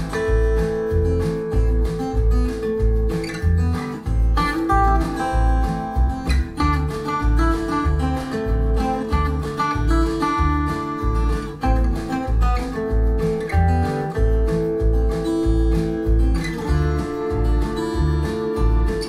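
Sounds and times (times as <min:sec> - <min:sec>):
folk music over loudspeakers: 0:00.0 - 0:19.0.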